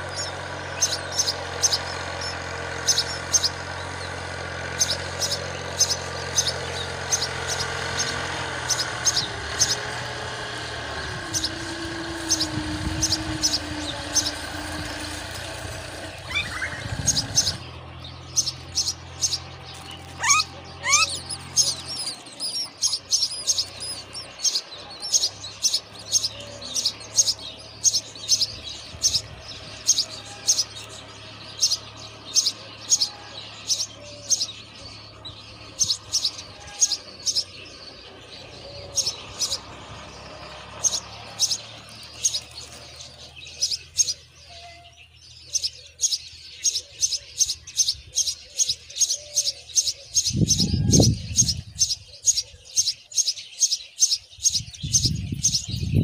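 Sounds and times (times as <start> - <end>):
nestlings chirping: 0.0 - 56.0
rising bird calls: 0.0 - 56.0.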